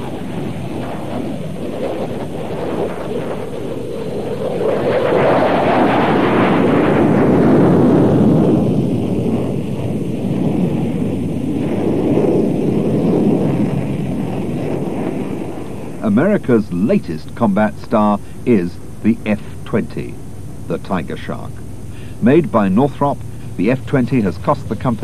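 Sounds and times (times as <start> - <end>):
jet aircraft rushing roar: 0.0 - 25.0.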